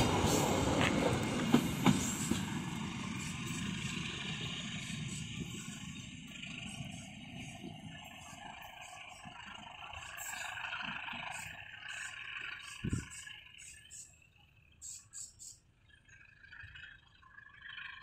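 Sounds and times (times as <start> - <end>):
passenger train running: 0.0 - 16.3.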